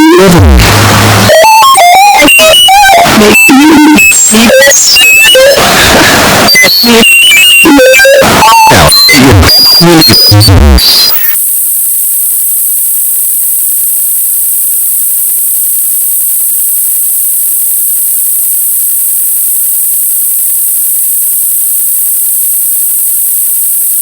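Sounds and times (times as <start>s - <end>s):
distorted music: 0.0s - 24.0s
electronic static hiss: 0.0s - 24.0s.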